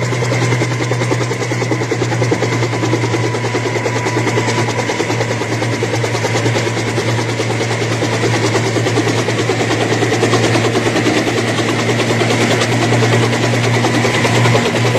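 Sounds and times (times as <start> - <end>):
helicopter engine and rotor: 0.0 - 14.9.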